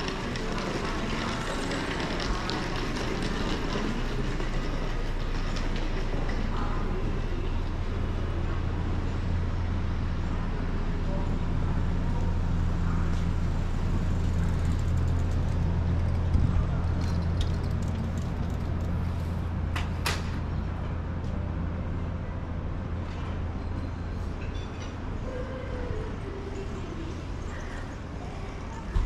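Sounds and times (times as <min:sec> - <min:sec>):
low street rumble: 0:00.0 - 0:29.0.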